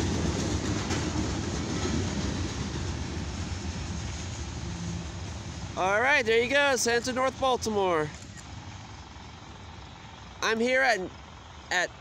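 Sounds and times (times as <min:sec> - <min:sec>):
train wheels rolling on rails: 0:00.0 - 0:10.4.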